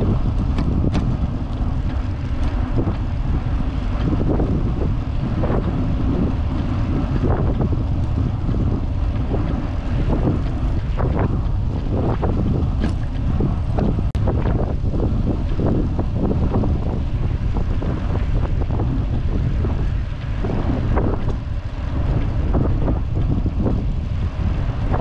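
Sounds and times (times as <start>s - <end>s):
bicycle knocks and rattles: 0.0s - 24.2s
wind buffeting microphone: 0.0s - 25.0s.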